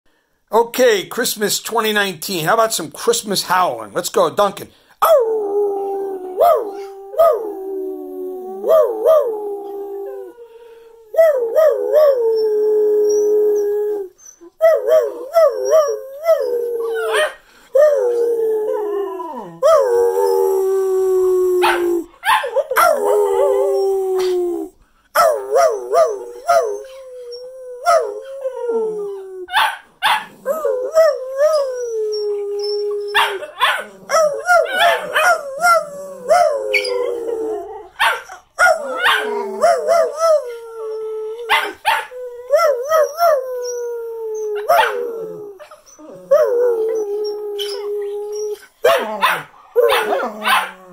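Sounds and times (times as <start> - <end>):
dog howling: 5.0 - 50.9.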